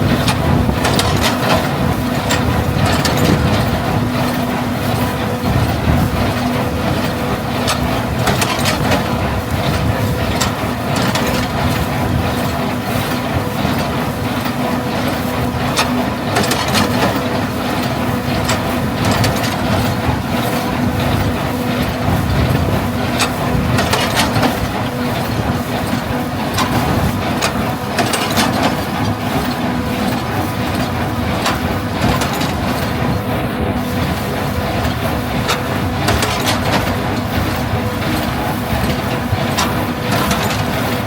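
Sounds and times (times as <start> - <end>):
mechanical clicks and clatter: 0.0 - 33.3, 34.0 - 41.0
farm machinery engine hum: 0.0 - 41.0.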